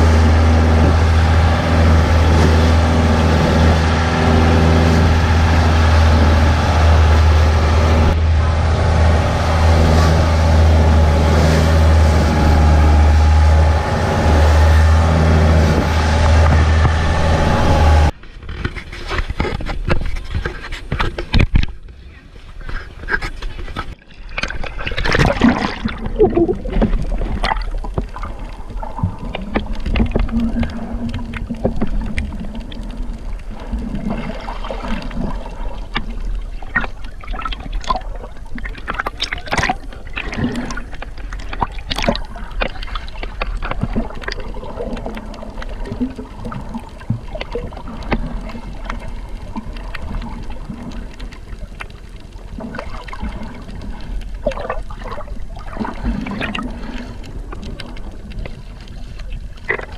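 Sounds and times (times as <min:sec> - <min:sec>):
steady low rumble: 0:00.0 - 0:18.2, 0:24.7 - 0:59.9
water splashes: 0:00.0 - 0:18.6, 0:19.2 - 0:59.9
water sloshing and gurgling: 0:00.0 - 0:59.9.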